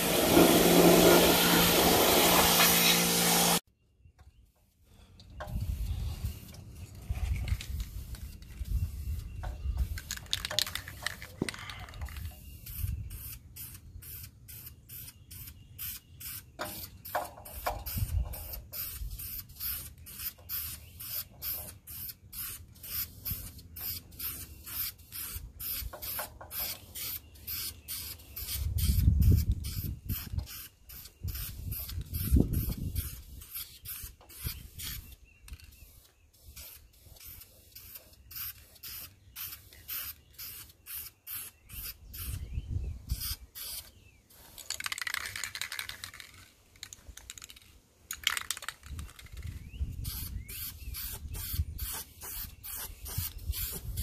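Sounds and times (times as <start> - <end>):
spray paint can hissing bursts: 0.0 - 3.6, 7.7 - 11.4, 12.1 - 42.4, 43.1 - 54.0.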